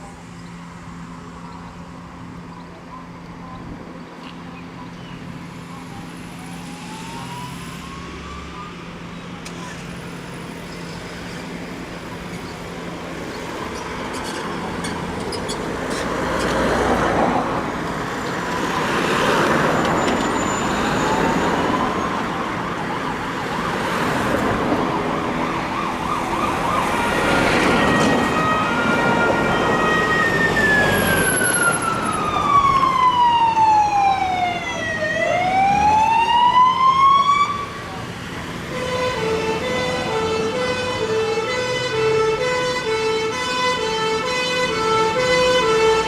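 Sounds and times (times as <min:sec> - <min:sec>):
road traffic: 0:00.0 - 0:46.0
emergency vehicle sirens: 0:04.6 - 0:46.0.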